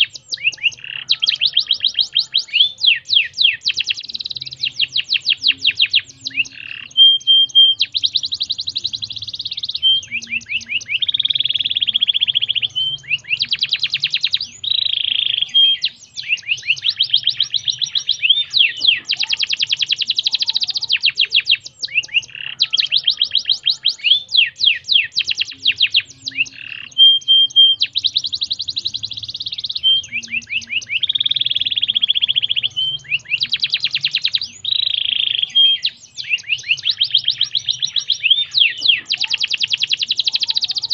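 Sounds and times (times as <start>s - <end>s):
canary singing trills: 0.0s - 40.9s
canary whistles: 0.0s - 40.9s.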